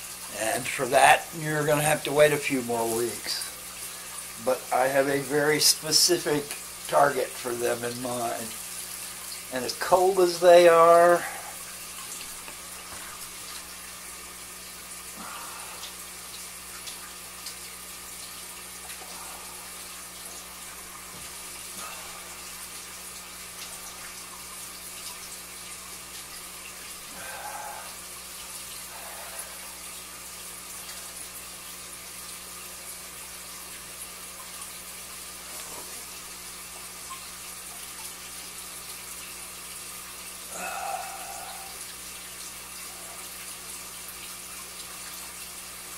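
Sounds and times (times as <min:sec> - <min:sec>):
water trickling: 0:00.0 - 0:45.9.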